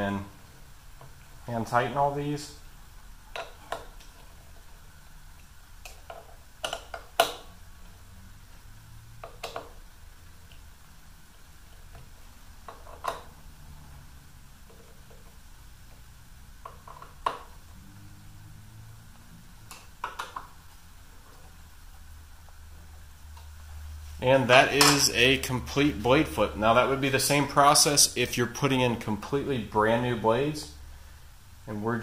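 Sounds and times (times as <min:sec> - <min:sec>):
faint low hum: 0:00.0 - 0:32.0.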